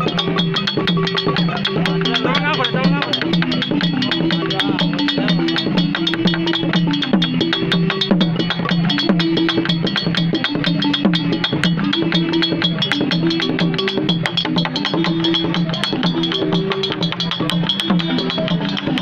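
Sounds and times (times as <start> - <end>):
wooden xylophone melody: 0.0 - 19.0.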